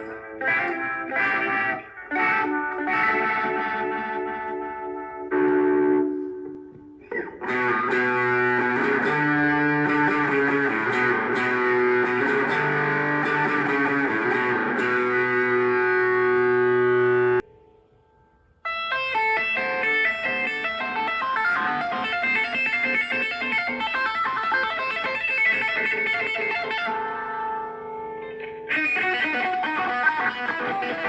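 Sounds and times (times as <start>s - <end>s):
dense sustained electric guitar: 0.0s - 17.7s, 18.7s - 31.0s
picked electric guitar notes: 0.0s - 31.0s.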